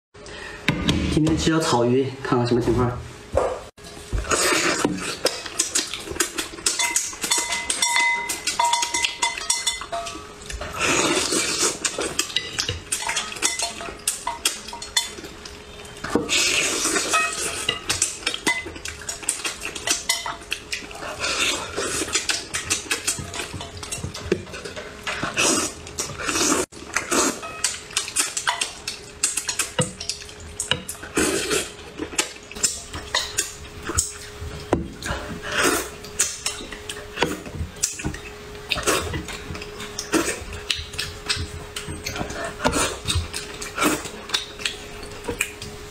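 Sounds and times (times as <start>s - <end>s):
utensils clinking against dishes: 4.4s - 45.8s.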